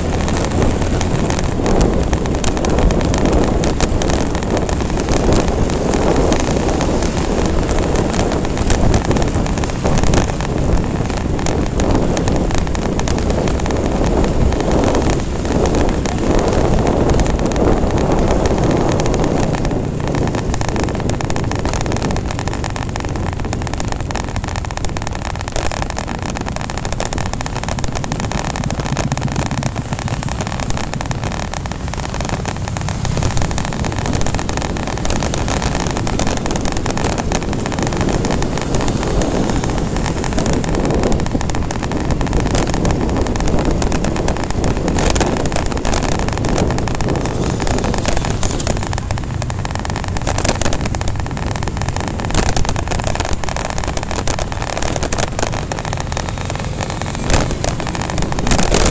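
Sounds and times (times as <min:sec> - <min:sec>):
motorcycle engine: 0:00.0 - 0:58.9
wind on microphone: 0:00.0 - 0:58.9.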